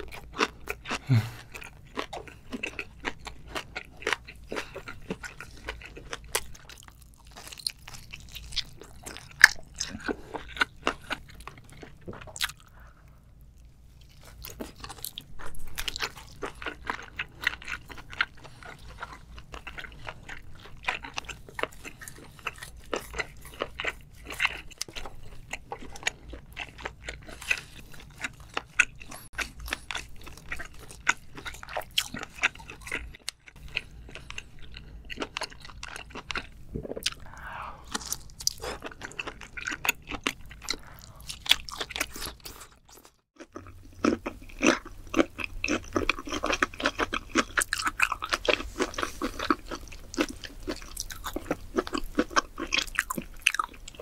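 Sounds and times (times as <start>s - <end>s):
chewing and biting: 0.0s - 12.8s, 14.0s - 54.0s.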